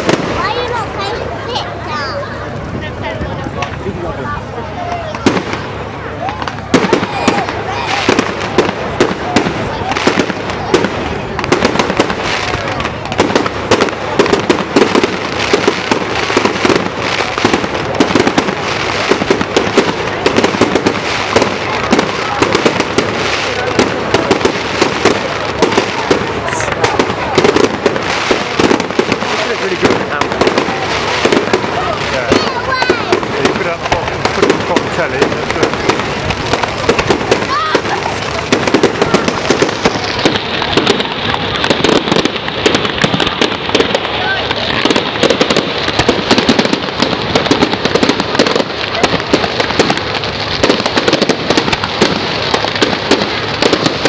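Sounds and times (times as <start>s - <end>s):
constant hiss: 0.0s - 54.0s
fireworks crackling bangs: 0.0s - 54.0s.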